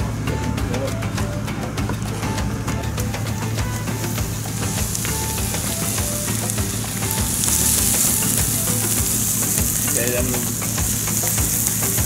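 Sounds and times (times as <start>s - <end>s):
vegetables sizzling in oil: 2.1s - 12.0s.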